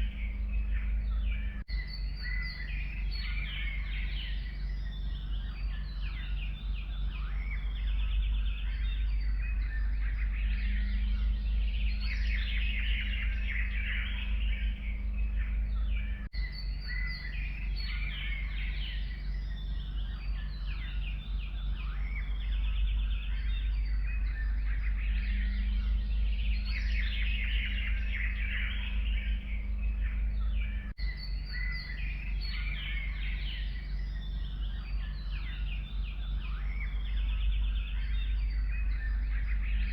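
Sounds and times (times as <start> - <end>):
forest birds singing: 0.0 - 39.9
steady low rumble: 0.0 - 39.9.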